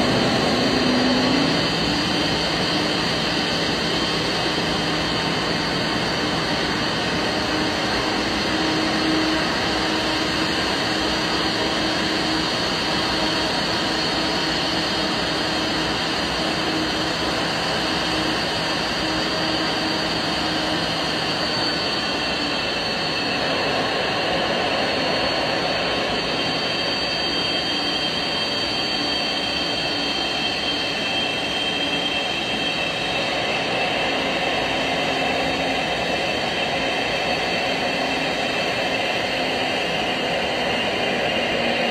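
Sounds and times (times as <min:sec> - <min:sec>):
jet engines roar and whine: 0:00.0 - 0:41.9.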